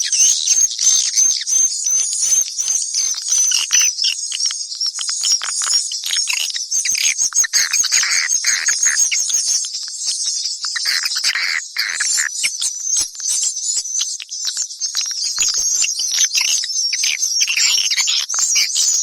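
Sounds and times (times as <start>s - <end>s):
swiftlets twittering and chirping: 0.0s - 19.0s.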